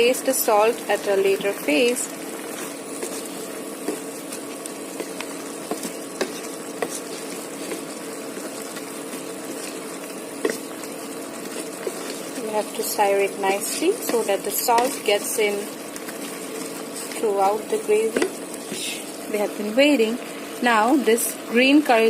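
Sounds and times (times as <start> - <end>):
curry sizzling in a pan: 0.0 - 22.0.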